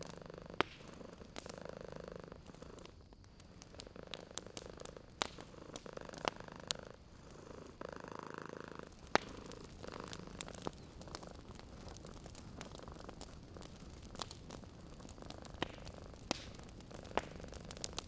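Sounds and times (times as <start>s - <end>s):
cat purring: 0.0s - 18.0s
wood fire crackling and popping: 0.0s - 18.0s.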